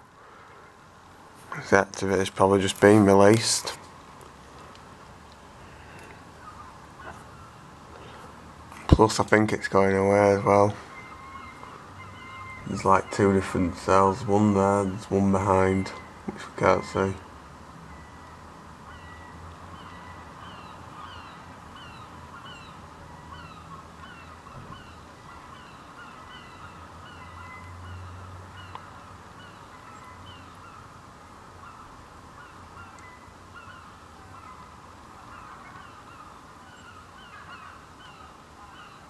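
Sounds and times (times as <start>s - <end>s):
chorus of birds calling: 5.6s - 39.0s.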